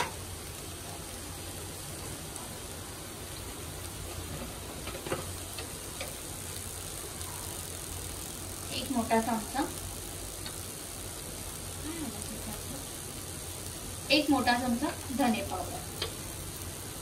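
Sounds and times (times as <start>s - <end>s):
paste sizzling in a pan: 0.0s - 17.0s
faint popping: 3.2s - 17.0s.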